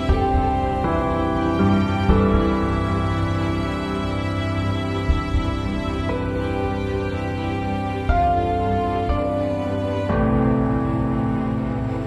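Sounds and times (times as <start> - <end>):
low drone: 0.0 - 12.0
slow instrumental music: 0.0 - 12.0.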